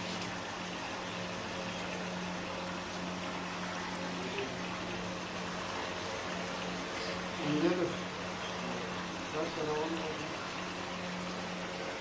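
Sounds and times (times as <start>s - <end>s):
steady hiss and low hum: 0.0s - 12.0s.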